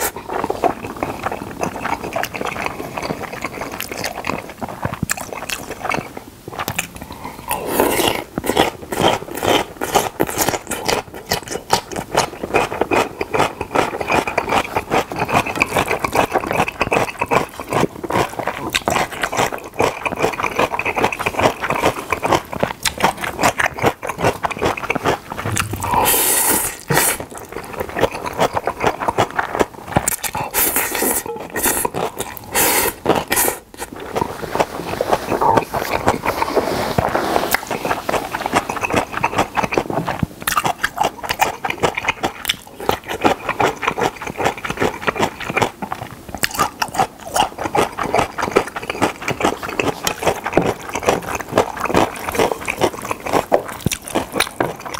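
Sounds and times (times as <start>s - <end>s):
wet chewing and lip smacking: 0.0s - 54.9s.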